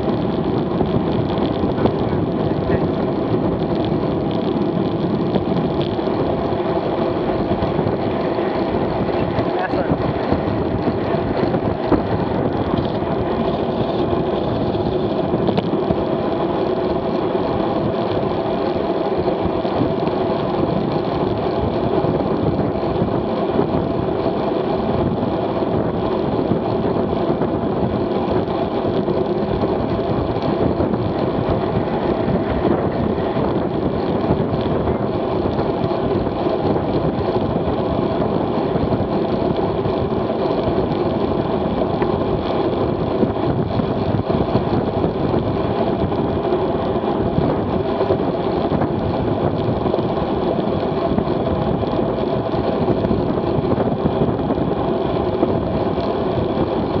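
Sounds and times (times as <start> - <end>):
bike tyres humming on asphalt: 0.0 - 57.0
wind rushing on microphone: 0.0 - 57.0.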